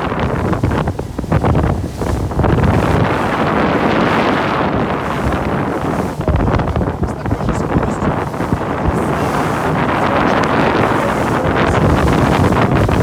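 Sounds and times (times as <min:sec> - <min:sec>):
water rushing under boat: 0:00.0 - 0:13.0
wind buffeting microphone: 0:00.0 - 0:13.0.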